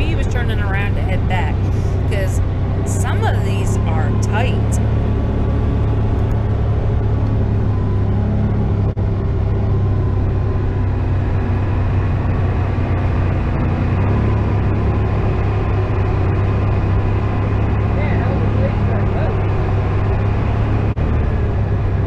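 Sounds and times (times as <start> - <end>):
atv engine droning: 0.0 - 22.0
wind and tyre noise: 0.0 - 22.0.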